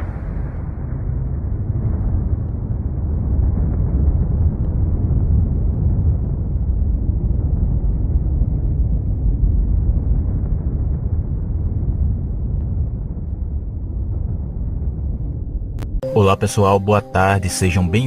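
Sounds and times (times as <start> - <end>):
deep rumble: 0.0 - 16.1.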